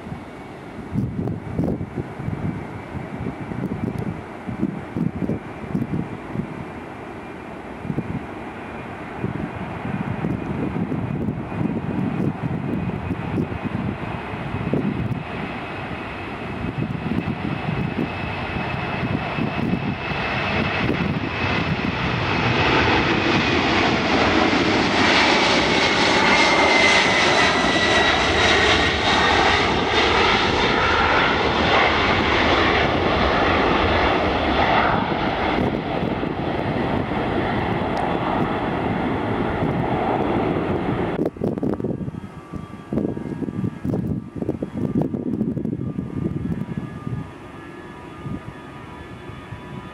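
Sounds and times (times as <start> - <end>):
high jet whine: 0.0 - 49.9
jet engines roaring at takeoff: 0.0 - 49.9.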